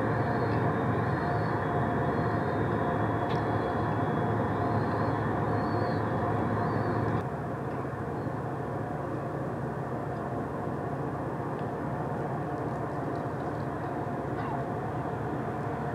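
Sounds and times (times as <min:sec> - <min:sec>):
harbour machinery drone: 0:00.0 - 0:15.9.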